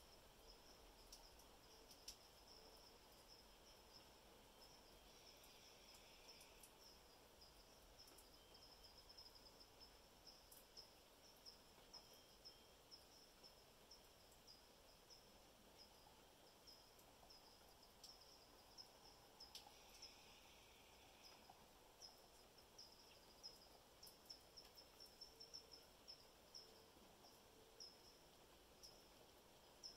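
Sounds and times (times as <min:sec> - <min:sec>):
faint high chirping: 0:00.0 - 0:29.9.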